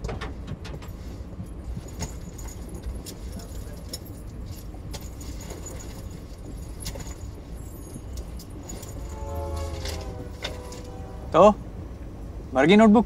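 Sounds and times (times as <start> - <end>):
light clicks and rattles: 0.0 - 11.0
train carriage rumble: 0.0 - 13.0.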